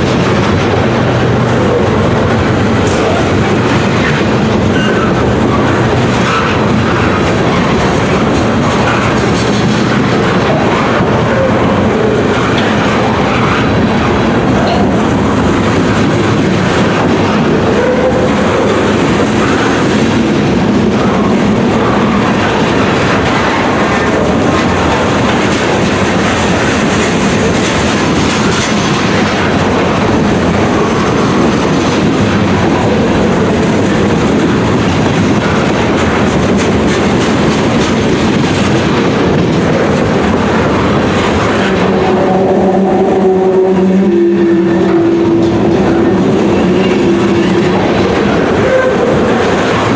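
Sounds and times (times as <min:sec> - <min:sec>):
steel wheels on rail: 0:00.0 - 0:49.9.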